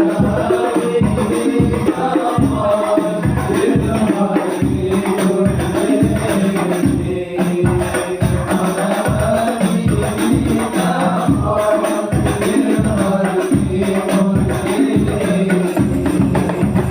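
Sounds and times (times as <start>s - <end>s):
lead singer: 0.0s - 16.1s
frame drums with jingles: 0.0s - 16.9s
group singing: 0.0s - 16.9s.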